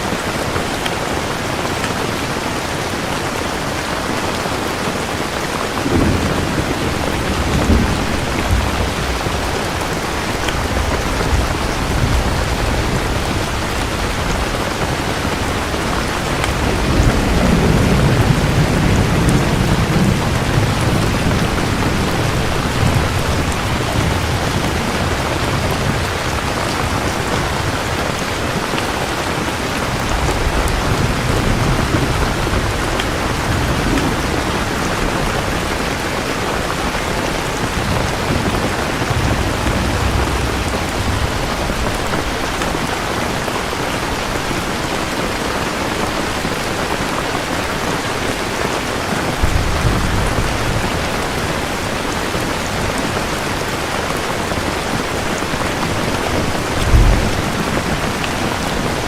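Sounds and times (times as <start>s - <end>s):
heavy rain pattering: 0.0s - 59.0s
distant thunder rolling: 5.6s - 45.0s, 49.3s - 53.4s, 55.2s - 59.0s.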